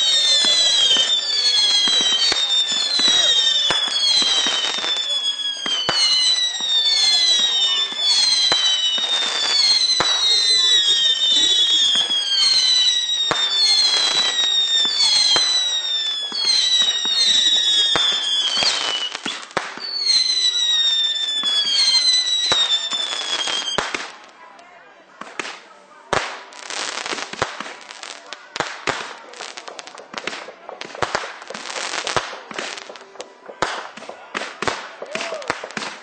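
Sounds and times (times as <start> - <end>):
firework bangs: 0.0 - 24.6, 25.2 - 36.0
whistling fireworks: 0.0 - 36.0.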